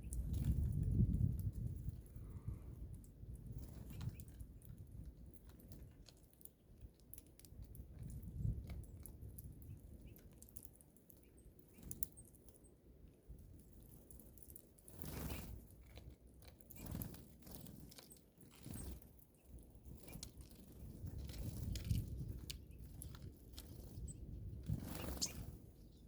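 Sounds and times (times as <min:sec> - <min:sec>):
birds pecking seed: 0:00.0 - 0:26.0.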